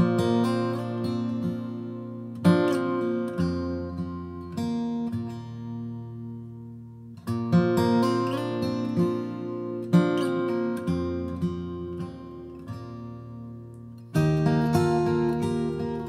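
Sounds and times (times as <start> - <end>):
fingerpicked acoustic guitar: 0.0 - 16.0.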